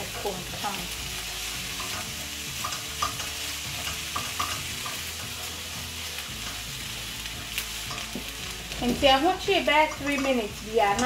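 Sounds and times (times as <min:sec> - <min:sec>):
onions sizzling in a frying pan: 0:00.0 - 0:11.0
spatula scraping a pan: 0:01.2 - 0:11.0.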